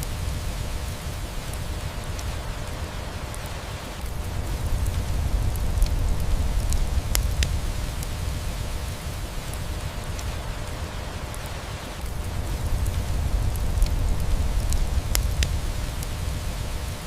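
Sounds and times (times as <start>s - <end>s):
steady rain rumbling: 0.0s - 17.0s
wood fire crackles: 0.0s - 17.0s.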